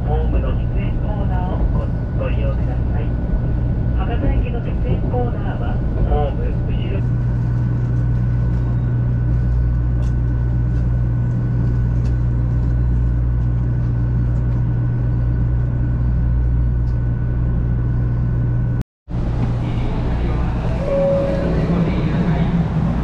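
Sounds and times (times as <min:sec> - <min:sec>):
train rumble inside carriage: 0:00.0 - 0:23.0.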